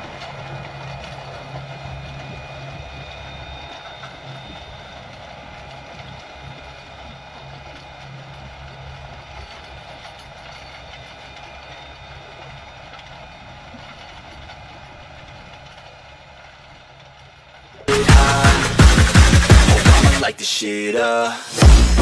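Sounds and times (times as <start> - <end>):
harrow tines churning soil: 0.0 - 20.1
tractor diesel engine running: 0.0 - 22.0.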